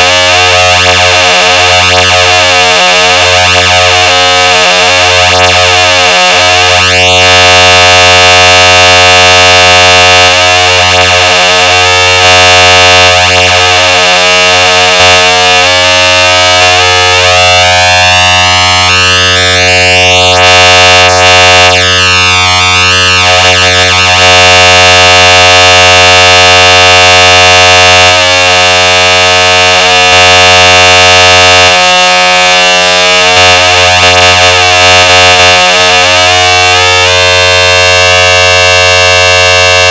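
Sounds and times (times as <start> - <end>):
distorted alert tone buzz: 0.0 - 39.9.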